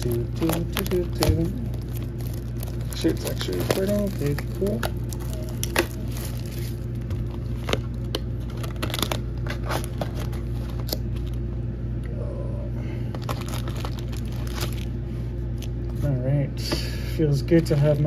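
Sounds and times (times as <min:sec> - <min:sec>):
plastic wrap crinkling and tearing: 0:00.0 - 0:11.4, 0:13.1 - 0:15.7, 0:17.6 - 0:18.0
steady low hum: 0:00.0 - 0:18.0.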